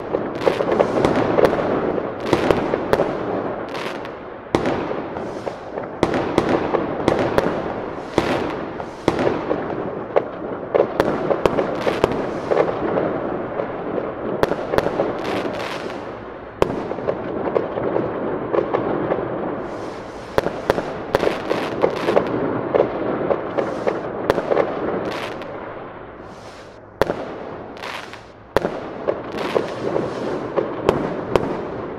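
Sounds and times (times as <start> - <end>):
fireworks bangs and pops: 0.0 - 31.9
fireworks crackle: 0.0 - 31.9.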